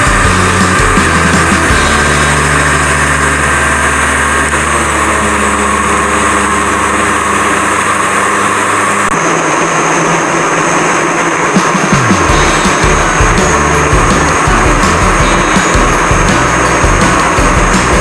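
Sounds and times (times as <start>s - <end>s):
blender motor whirring: 0.0s - 18.0s.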